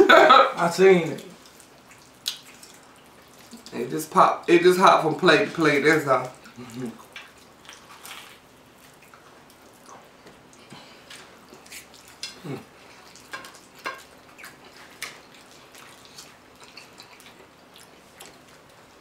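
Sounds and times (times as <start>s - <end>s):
wet chewing and lip smacking: 1.2s - 3.8s, 5.9s - 19.0s.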